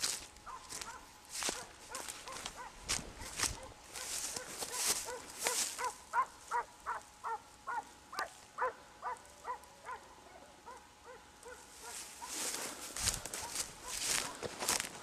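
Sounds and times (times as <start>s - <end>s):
hound baying: 0.4s - 12.6s.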